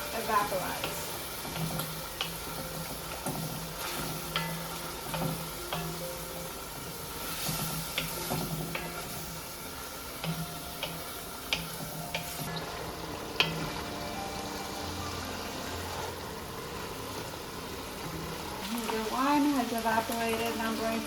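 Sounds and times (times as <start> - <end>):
meat sizzling in a pan: 0.0 - 21.0.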